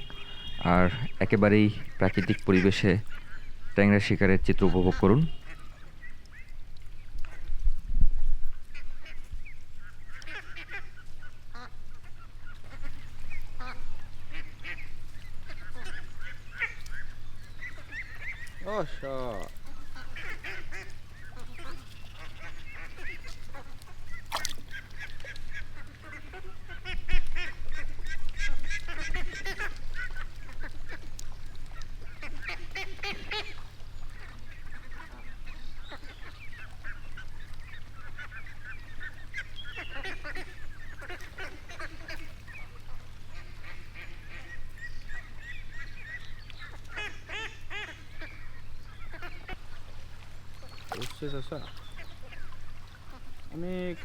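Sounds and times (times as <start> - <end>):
waterfowl honking and quacking: 0.0 - 7.6, 8.6 - 54.0.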